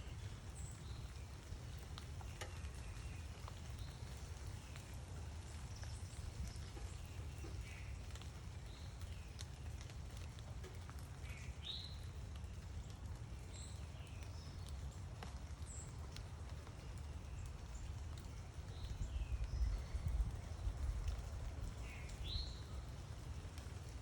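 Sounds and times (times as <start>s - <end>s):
faint clicks: 1.8s - 24.0s.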